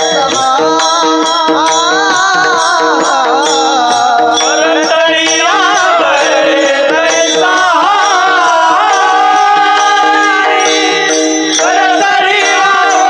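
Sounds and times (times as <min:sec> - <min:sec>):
person singing devotional melody: 0:00.0 - 0:13.0.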